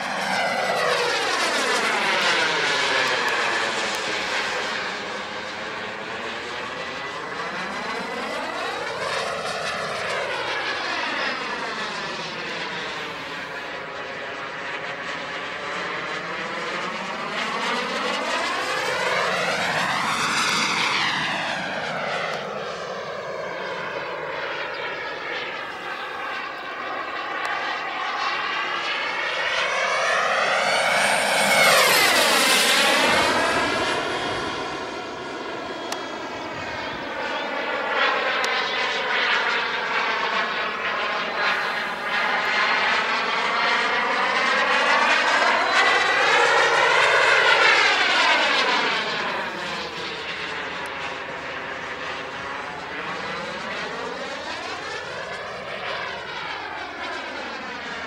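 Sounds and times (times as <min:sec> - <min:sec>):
model jet turbine whooshing: 0:00.0 - 0:58.0.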